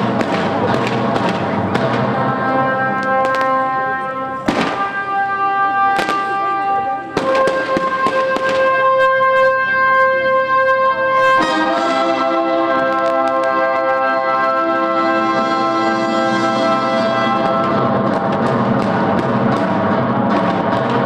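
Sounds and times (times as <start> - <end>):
fireworks cracking and banging: 0.0 - 9.1, 11.4 - 14.6, 16.4 - 21.0
music with long held chords: 0.0 - 21.0.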